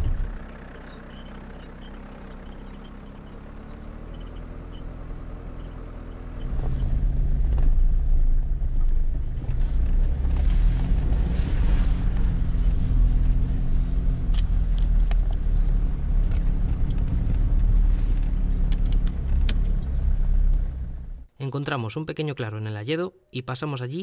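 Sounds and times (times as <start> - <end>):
car engine running: 0.0 - 21.3.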